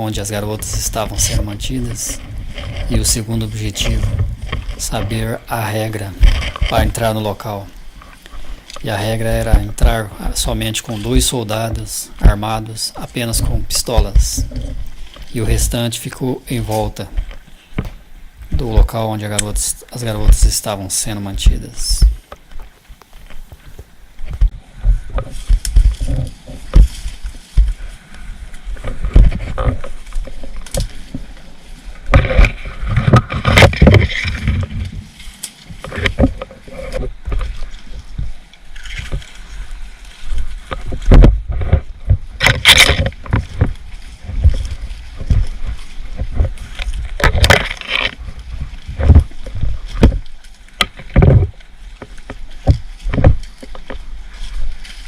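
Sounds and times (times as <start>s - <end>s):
thumps and rustling on microphone: 0.0s - 55.0s.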